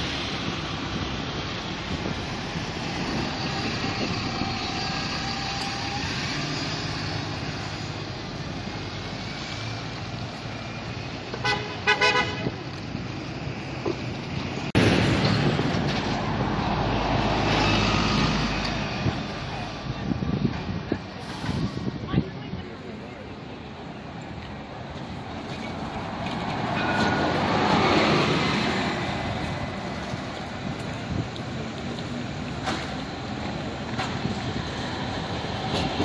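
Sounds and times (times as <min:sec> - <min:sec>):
bus engine running close: 0:00.0 - 0:36.0
buses running past: 0:00.0 - 0:36.0.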